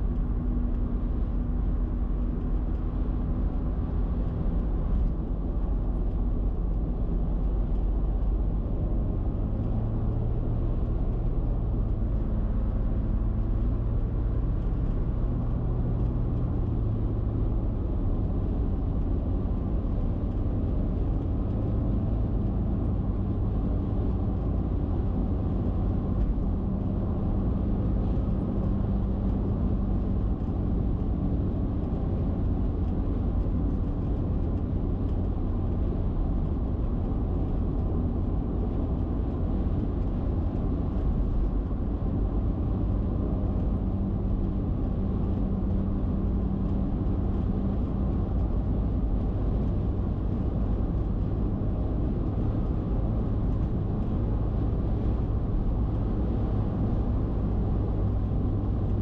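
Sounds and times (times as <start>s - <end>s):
tyre and wind road roar: 0.0s - 59.0s.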